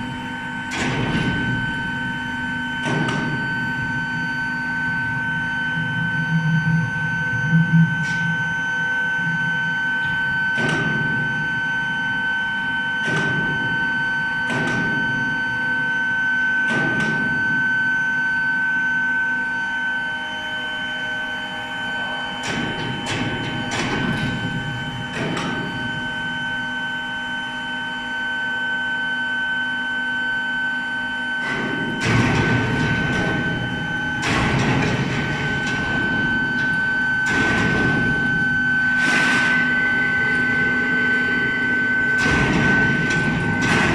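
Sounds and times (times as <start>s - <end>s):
furnace high-pitched whine: 0.0s - 43.9s.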